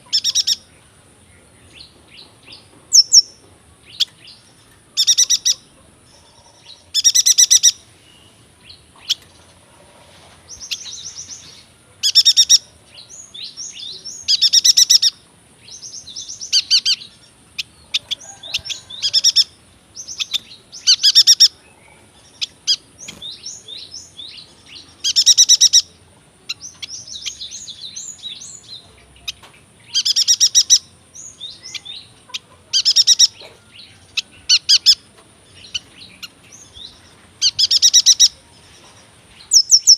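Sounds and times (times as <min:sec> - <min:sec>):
bird singing rapid high trills: 0:00.0 - 0:09.6, 0:10.5 - 0:38.5, 0:39.4 - 0:39.9
soft bird chirps and twitters: 0:00.0 - 0:09.9, 0:10.5 - 0:39.9.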